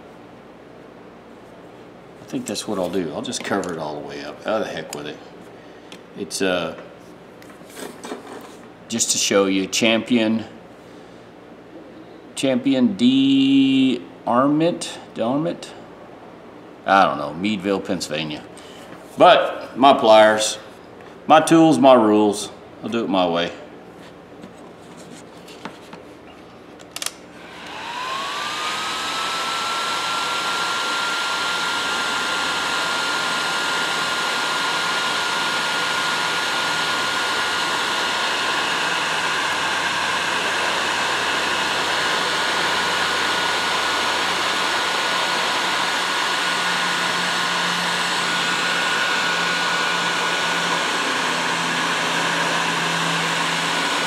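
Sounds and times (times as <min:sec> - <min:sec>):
heat gun fan whine: 0:00.0 - 0:23.5, 0:25.2 - 0:54.0.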